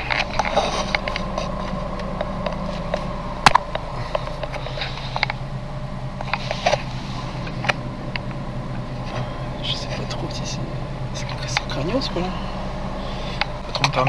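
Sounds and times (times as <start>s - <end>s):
car engine hum in cabin: 0.0s - 14.0s.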